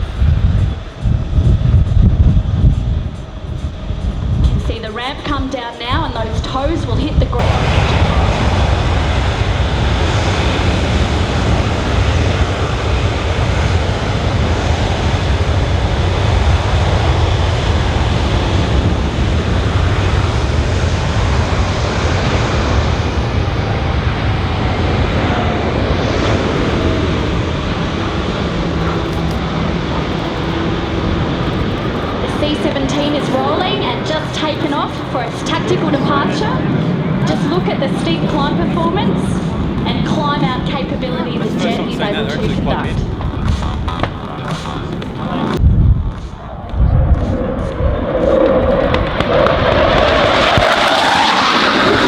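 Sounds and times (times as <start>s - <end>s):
jet engines running at high power: 0.0s - 52.0s.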